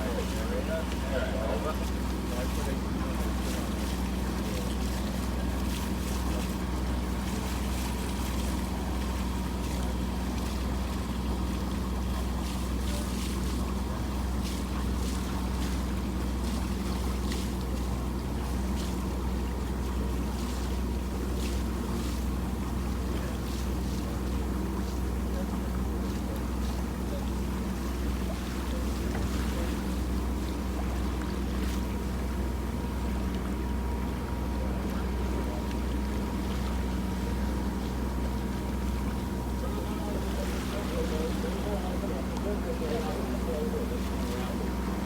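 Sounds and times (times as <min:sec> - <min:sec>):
boat engine drone: 0:00.0 - 0:45.0
wind: 0:00.0 - 0:45.0.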